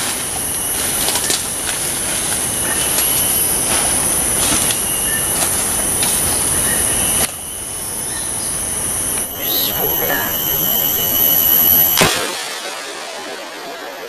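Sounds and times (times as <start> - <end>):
rustle of leaves and undergrowth: 0.0 - 12.0
insects droning: 0.0 - 14.0.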